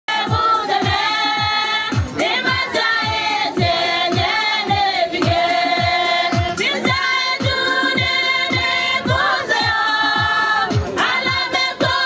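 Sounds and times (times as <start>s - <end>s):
low thumping beat: 0.1s - 12.0s
women's choir singing a hymn: 0.1s - 12.0s.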